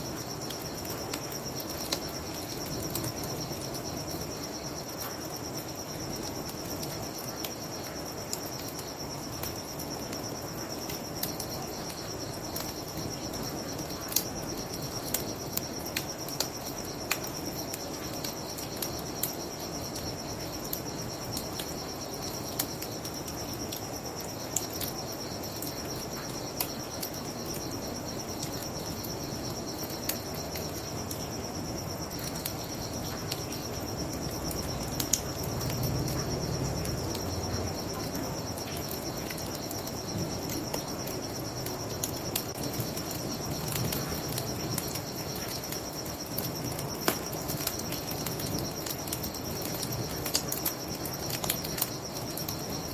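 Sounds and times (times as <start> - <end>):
crickets chirring: 0.0 - 52.9
wood fire crackling and popping: 0.1 - 52.9.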